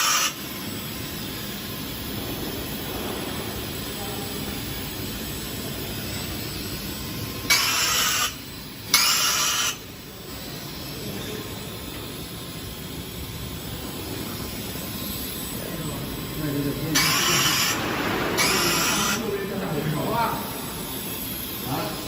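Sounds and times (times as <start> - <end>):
sharp hissing bursts: 0.0 - 22.0
welding machine noise: 0.0 - 22.0.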